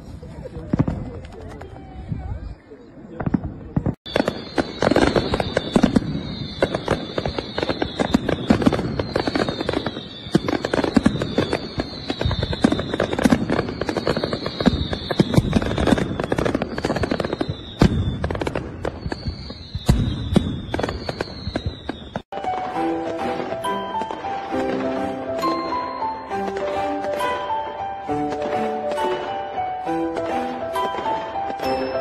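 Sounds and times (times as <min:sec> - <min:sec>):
fireworks bangs and crackles: 0:00.0 - 0:32.0
high falling whistle tone: 0:04.1 - 0:22.8, 0:23.6 - 0:32.0.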